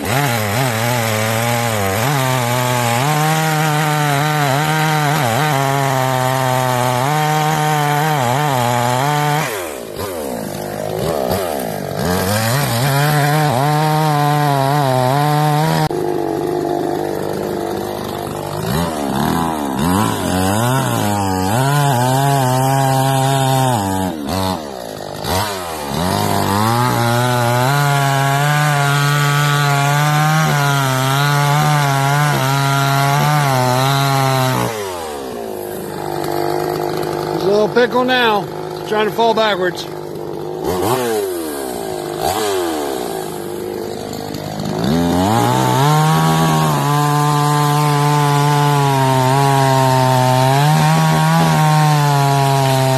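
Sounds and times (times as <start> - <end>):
chainsaw cutting into tree: 0.0 - 52.9.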